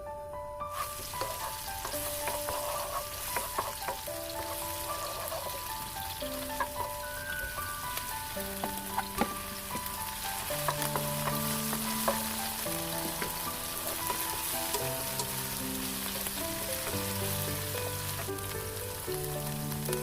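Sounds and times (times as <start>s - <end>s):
food sizzling in frying pan: 0.7s - 20.0s
utensil clicking against pan: 1.1s - 7.3s, 8.6s - 20.0s.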